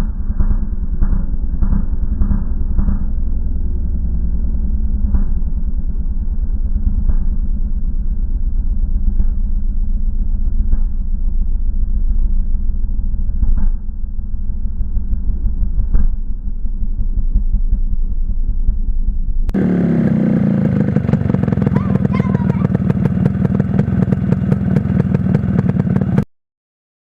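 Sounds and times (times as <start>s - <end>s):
motorcycle engine running: 0.0s - 26.3s.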